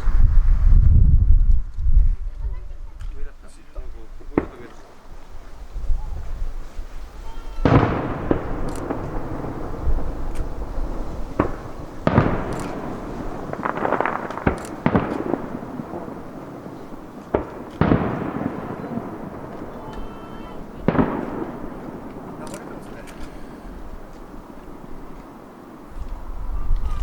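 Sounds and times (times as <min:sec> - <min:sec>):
firework booms with rolling echo: 0:00.0 - 0:01.7, 0:02.5 - 0:27.0
crackling pops: 0:03.0 - 0:05.1, 0:07.3 - 0:27.0.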